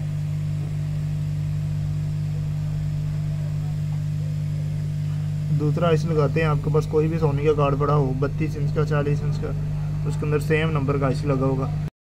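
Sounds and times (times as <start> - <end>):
low machine hum: 0.0 - 11.9.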